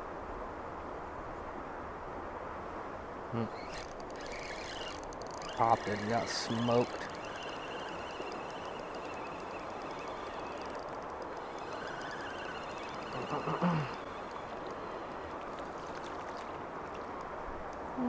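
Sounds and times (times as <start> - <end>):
wind: 0.0 - 18.0
river current rushing: 3.4 - 18.0.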